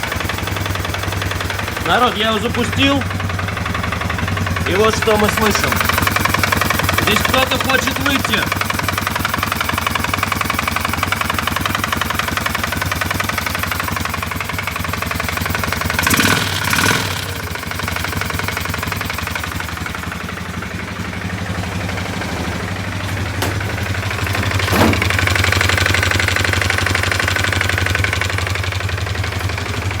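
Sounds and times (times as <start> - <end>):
engine idling with a knock: 0.0 - 30.0.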